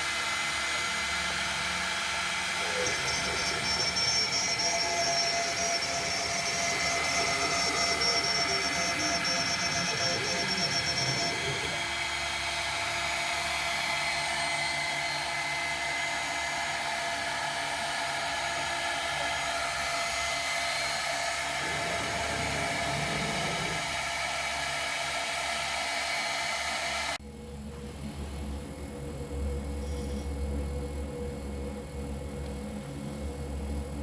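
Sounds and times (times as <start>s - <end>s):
router spindle high whine: 0.0s - 34.0s.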